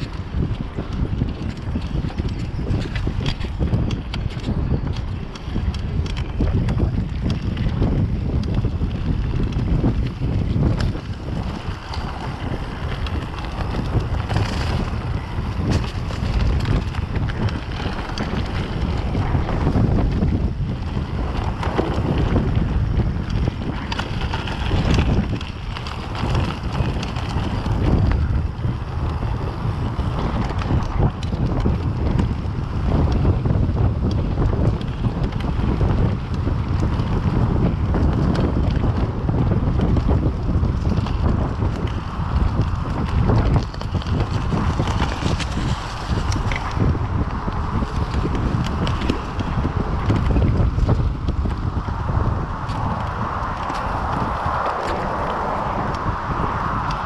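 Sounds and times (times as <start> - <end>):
bike rattling and knocking: 0.0 - 57.0
bike tyres rumbling on dirt: 0.0 - 57.0
wind noise on microphone: 0.0 - 57.0.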